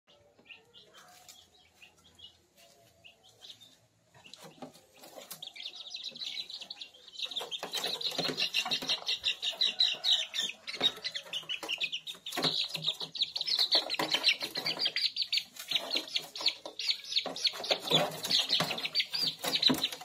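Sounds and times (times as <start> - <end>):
chicks peeping: 0.1 - 20.0
scuffling in a cage: 0.8 - 20.0.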